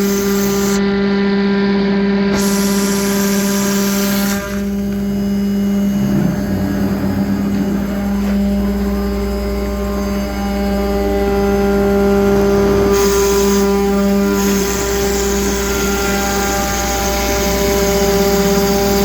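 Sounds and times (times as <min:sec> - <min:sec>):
cnc router humming and whining: 0:00.0 - 0:19.0.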